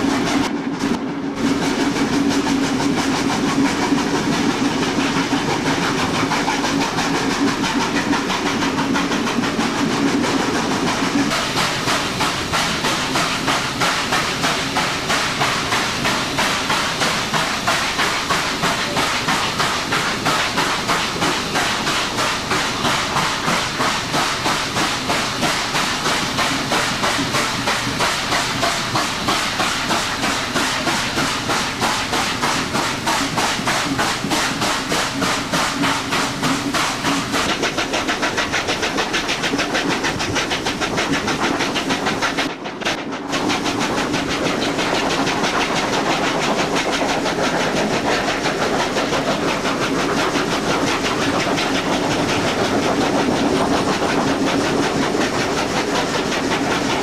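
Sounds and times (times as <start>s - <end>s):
hiss of steam: 0.0s - 57.0s
steam locomotive exhaust beats: 0.0s - 57.0s.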